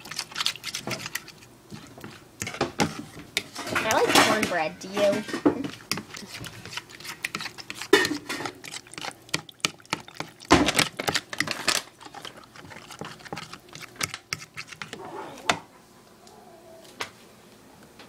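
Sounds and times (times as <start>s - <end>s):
fork scraping a bowl: 0.0s - 15.4s.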